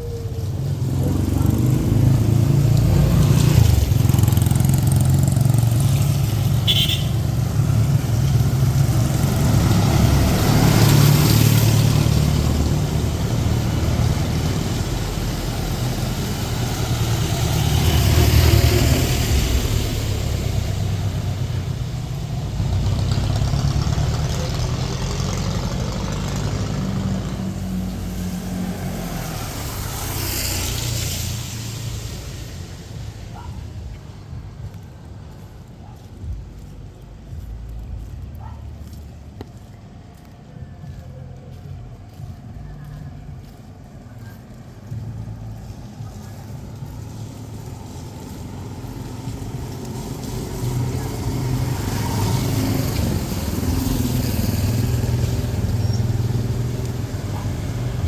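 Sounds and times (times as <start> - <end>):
cars and motorcycles passing: 0.0 - 58.0.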